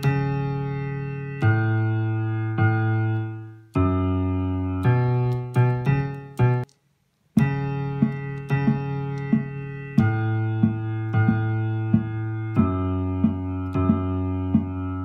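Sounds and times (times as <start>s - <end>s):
synthesizer piano chords: 0.0s - 15.0s.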